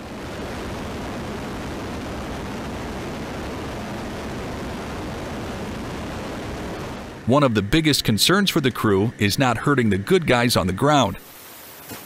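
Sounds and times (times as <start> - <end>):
turboprop aircraft drone: 0.0 - 11.5.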